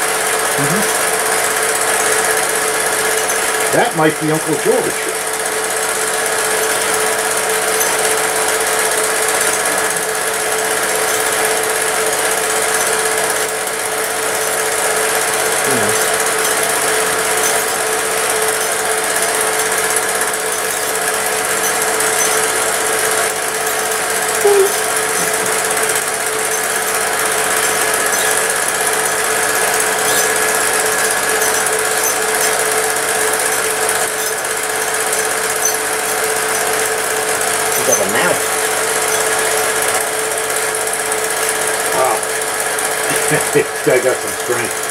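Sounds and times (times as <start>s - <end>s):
film projector whirring and rattling: 0.0s - 44.9s.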